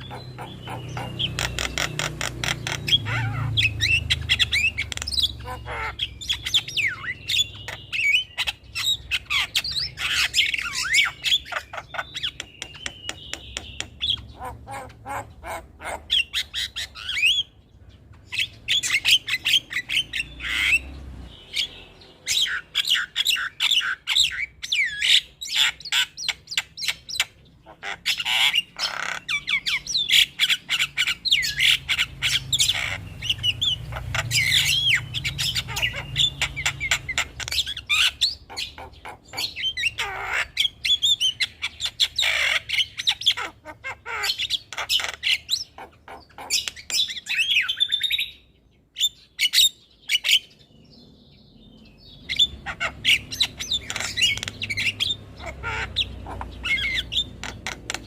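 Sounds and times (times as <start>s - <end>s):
mynas calling: 0.0s - 48.4s, 51.6s - 58.0s.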